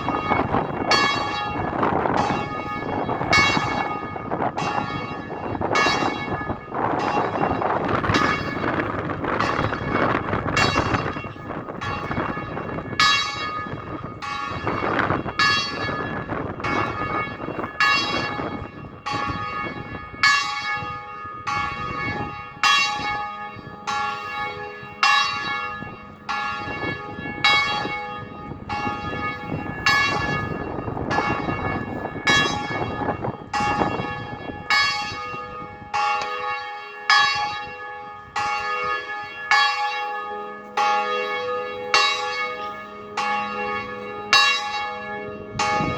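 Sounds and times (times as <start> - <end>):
bells ringing in a peal: 0.0 - 45.9
wind rumble on microphone: 0.0 - 45.9.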